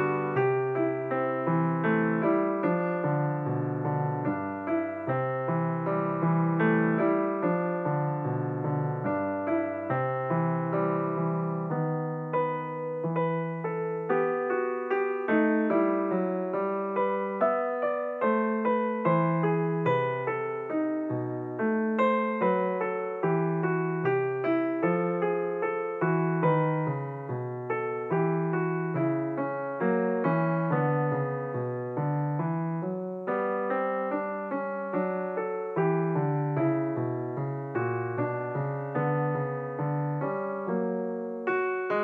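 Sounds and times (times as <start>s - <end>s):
gentle piano music: 0.0s - 42.0s.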